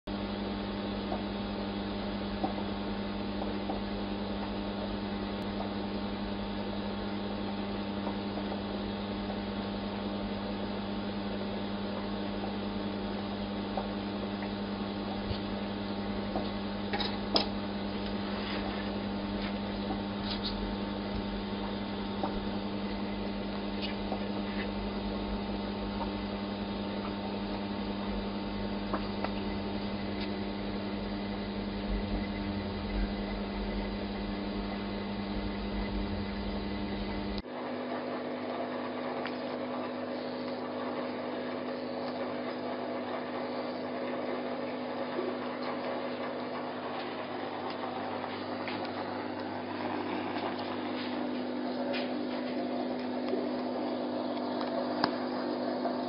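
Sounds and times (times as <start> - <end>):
steady electrical hum: 0.1 - 56.0.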